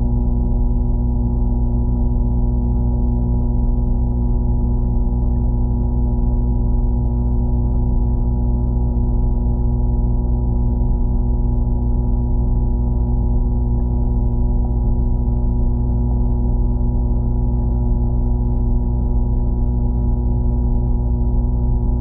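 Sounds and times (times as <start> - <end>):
droning hum: 0.0 - 22.0.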